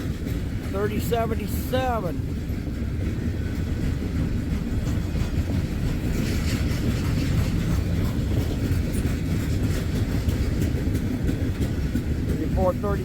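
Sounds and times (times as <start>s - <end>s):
train wheels rumbling on rails: 0.0s - 13.0s
wheels clicking over rail joints: 0.0s - 13.0s.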